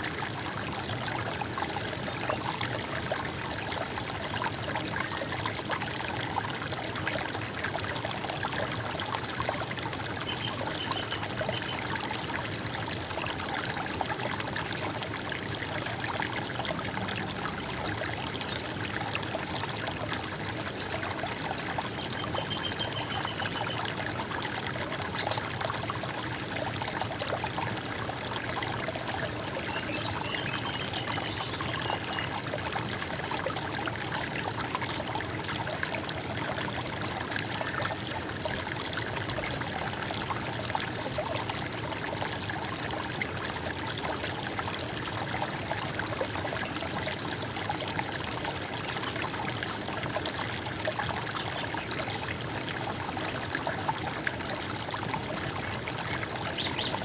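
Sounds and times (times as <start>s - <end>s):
stream water over stones: 0.0s - 57.0s.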